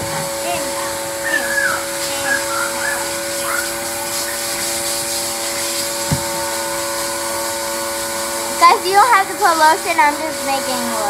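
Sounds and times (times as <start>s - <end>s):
electric motor drone: 0.0s - 11.0s.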